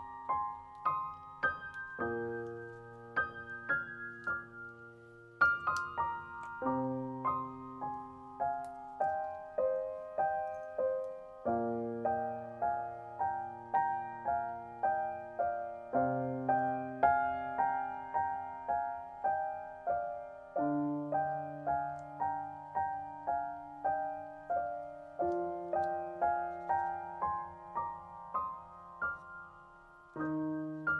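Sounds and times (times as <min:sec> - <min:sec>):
gentle piano music: 0:00.0 - 0:30.9.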